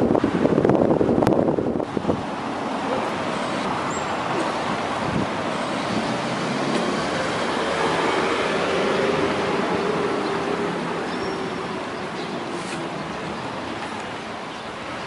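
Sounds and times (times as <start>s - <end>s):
passing cars: 0.0s - 15.0s.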